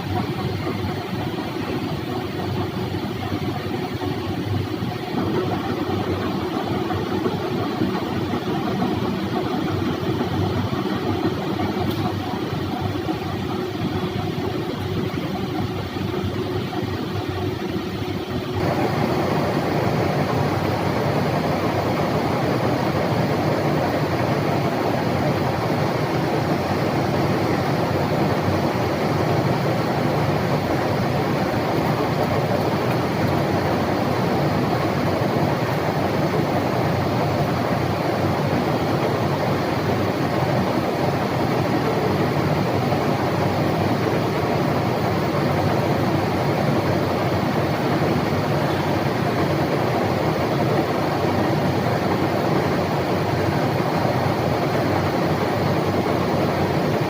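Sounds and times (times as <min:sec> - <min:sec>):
lathe running: 0:00.0 - 0:57.0.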